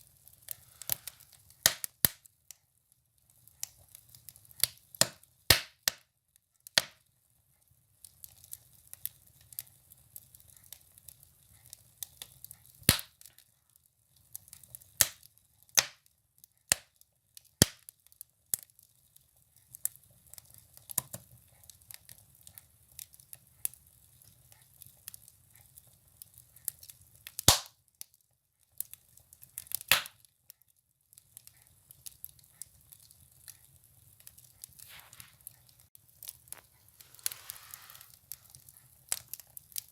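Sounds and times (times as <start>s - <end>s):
firewood crackling in a stove: 0.0s - 39.9s.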